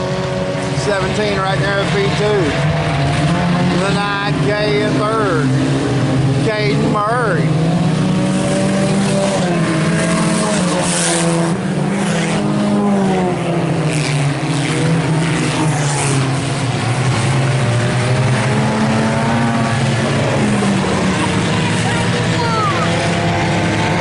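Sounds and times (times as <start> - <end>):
race car engines: 0.0 - 24.0.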